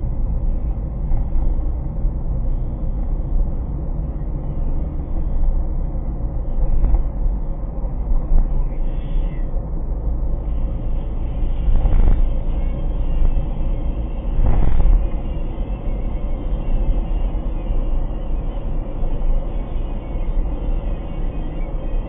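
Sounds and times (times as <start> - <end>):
road and engine noise inside car: 0.0 - 22.0.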